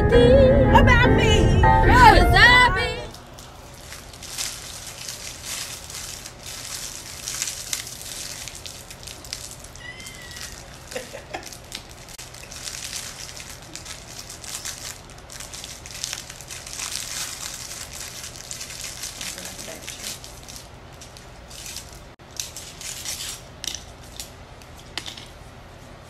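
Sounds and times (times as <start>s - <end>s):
plastic wrappers crinkling: 3.1s - 24.9s.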